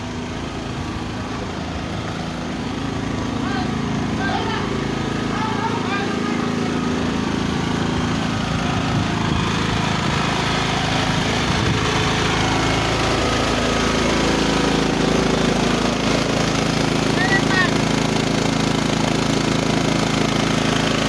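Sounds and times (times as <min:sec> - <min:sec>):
hydraulic power pack engine: 0:00.0 - 0:21.0.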